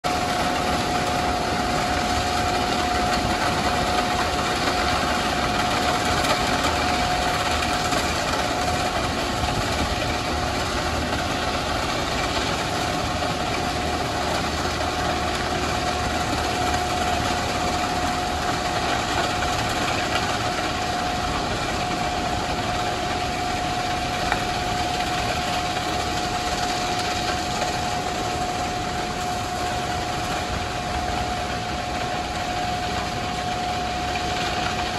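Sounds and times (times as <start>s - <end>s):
diesel engine running: 0.0s - 34.9s
steady whine: 0.0s - 34.9s
constant rushing noise: 0.1s - 34.9s.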